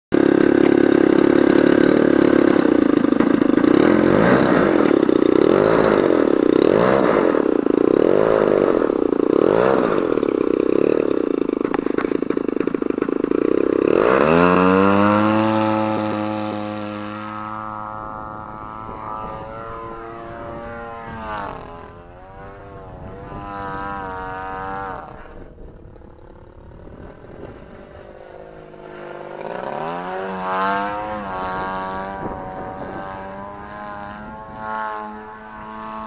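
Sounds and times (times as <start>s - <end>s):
model plane motor and propeller: 0.2s - 36.0s.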